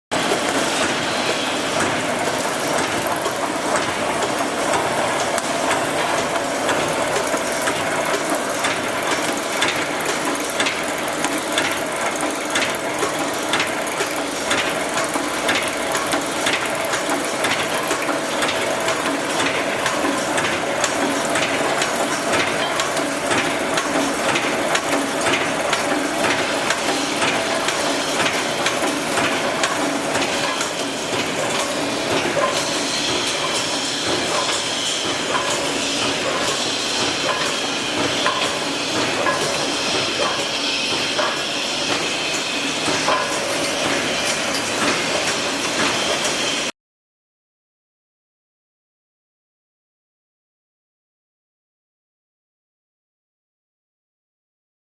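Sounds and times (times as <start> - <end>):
machine clacking: 0.1 - 46.7
machine humming: 0.2 - 46.7.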